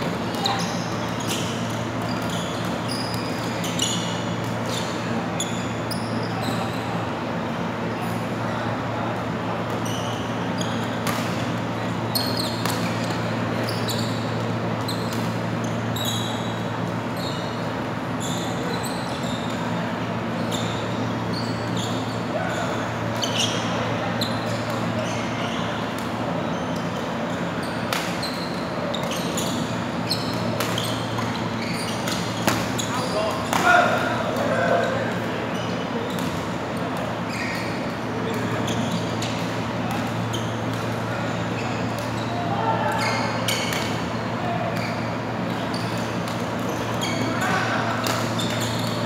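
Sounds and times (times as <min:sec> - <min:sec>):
sneakers squeaking on court: 0:00.0 - 0:07.1, 0:09.6 - 0:49.0.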